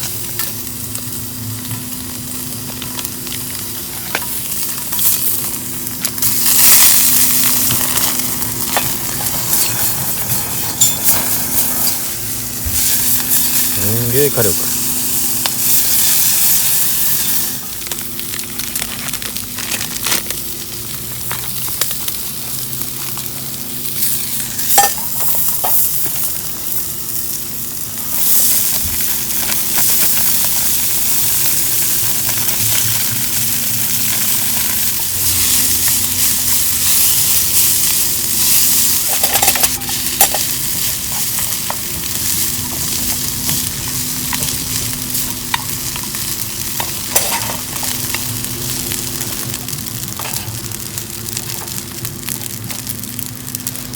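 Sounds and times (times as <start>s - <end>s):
sausages sizzling: 0.0s - 53.9s.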